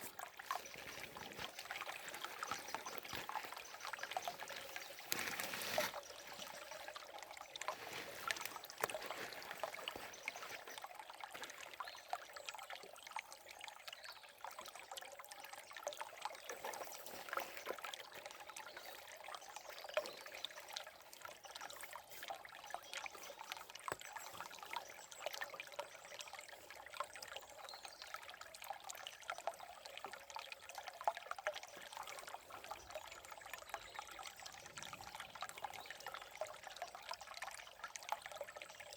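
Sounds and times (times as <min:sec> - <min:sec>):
river flowing and trickling: 0:00.0 - 0:38.9.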